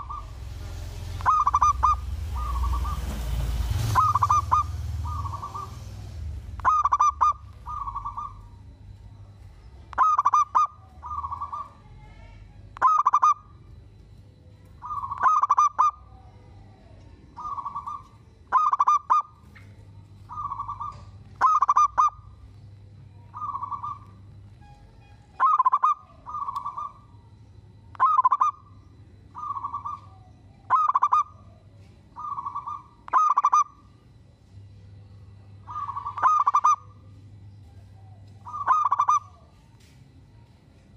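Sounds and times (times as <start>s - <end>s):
dove trilled cooing: 0.0s - 11.8s, 12.8s - 13.8s, 14.5s - 24.4s, 25.0s - 27.3s, 27.9s - 34.0s, 35.5s - 39.7s.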